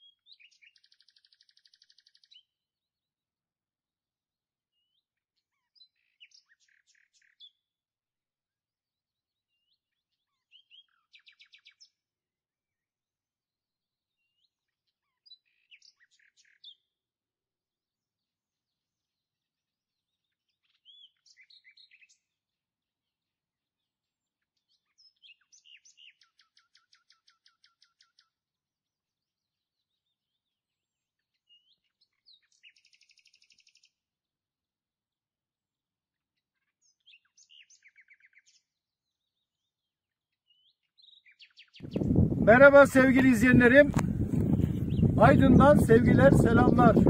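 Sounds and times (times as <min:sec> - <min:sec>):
songbird chirping and trilling: 0:00.0 - 0:02.7, 0:04.7 - 0:07.8, 0:09.2 - 0:12.0, 0:14.0 - 0:17.0, 0:18.2 - 0:28.4, 0:29.1 - 0:34.0, 0:36.2 - 0:47.0.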